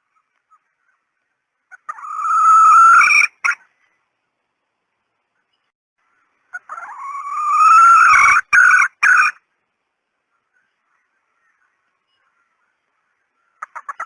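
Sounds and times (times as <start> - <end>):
jungle hen calling: 0.0 - 4.1, 6.0 - 9.6, 10.2 - 14.0.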